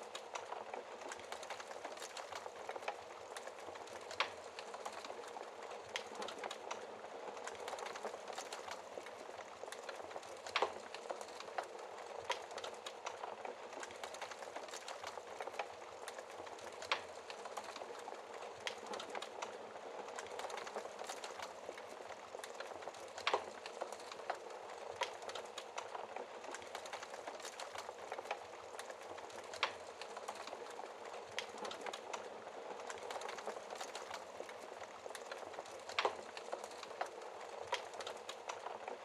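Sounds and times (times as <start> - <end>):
burning logs crackling and popping: 0.0 - 39.0.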